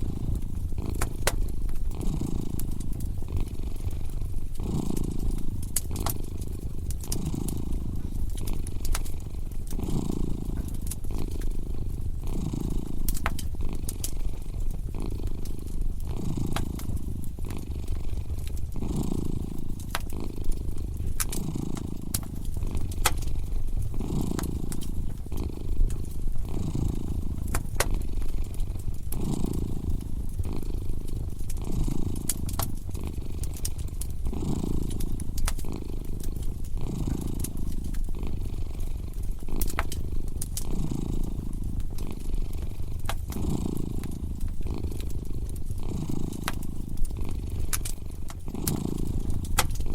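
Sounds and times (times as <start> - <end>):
cat purring: 0.0 - 49.9
wood fire crackling and popping: 0.0 - 49.9.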